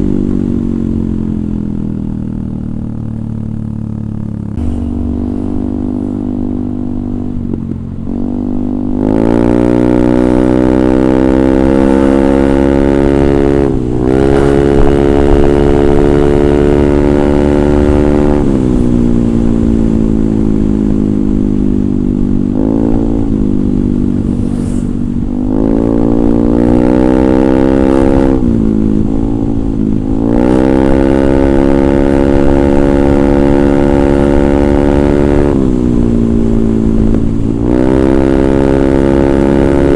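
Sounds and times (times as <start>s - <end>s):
scooter engine revving: 4.4s - 21.0s, 22.3s - 39.9s.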